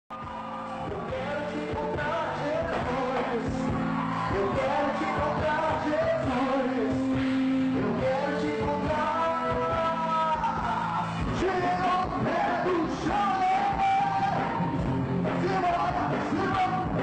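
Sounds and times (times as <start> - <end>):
bass: 0.1 - 17.0
drums keeping steady beat: 0.1 - 17.0
person singing: 0.2 - 14.7, 15.3 - 17.0.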